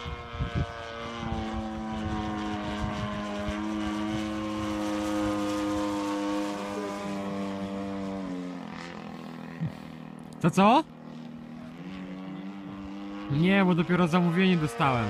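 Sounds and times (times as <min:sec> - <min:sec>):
model plane engine flying: 0:00.0 - 0:15.0.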